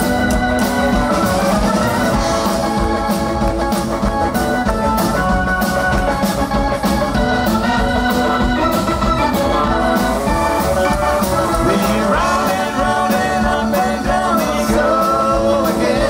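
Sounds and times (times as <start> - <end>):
drums keeping steady beat: 0.0 - 16.0
keyboard playing organ sound: 0.0 - 16.0.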